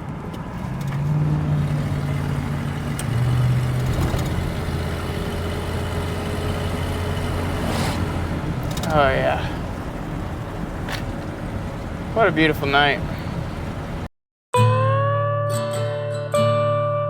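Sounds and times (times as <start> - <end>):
pickup truck engine running: 0.0 - 14.1.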